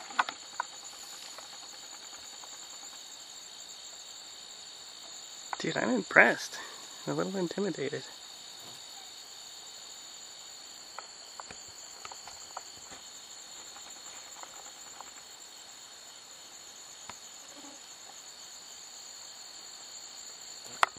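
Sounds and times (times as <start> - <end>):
crickets chirping: 0.0 - 20.9.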